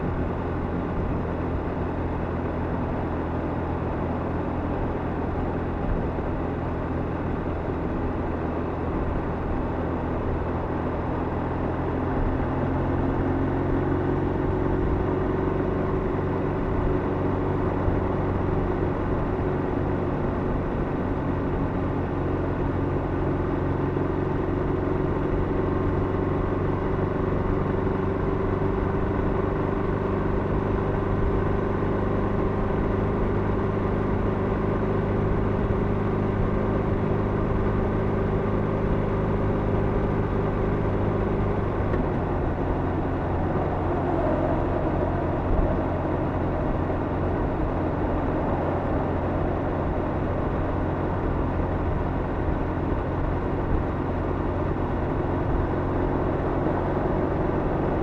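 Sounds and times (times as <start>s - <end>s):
motorcycle engine in tunnel: 0.0s - 58.0s.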